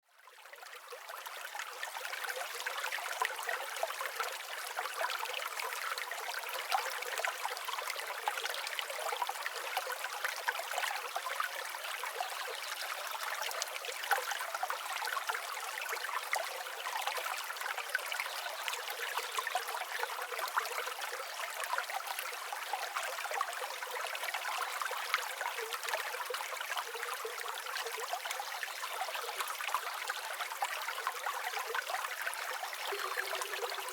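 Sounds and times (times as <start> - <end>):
trickling stream: 0.0 - 33.9.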